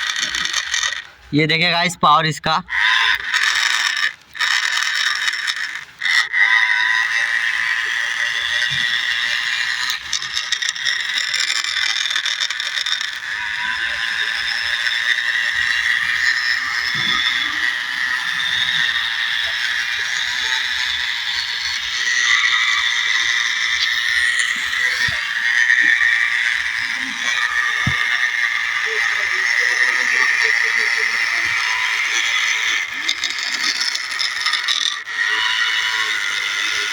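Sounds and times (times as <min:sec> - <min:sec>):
rapid rattling and clicking: 0:00.0 - 0:01.3, 0:02.7 - 0:36.9
toy tractor motor whining: 0:00.0 - 0:36.9.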